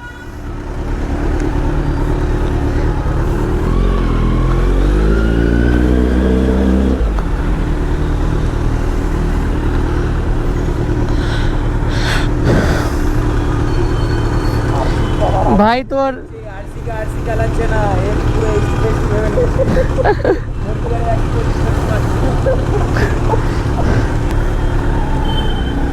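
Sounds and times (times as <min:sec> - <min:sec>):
motorcycle engine revving: 0:00.0 - 0:15.6, 0:16.6 - 0:25.9
road and wind noise: 0:00.0 - 0:25.9.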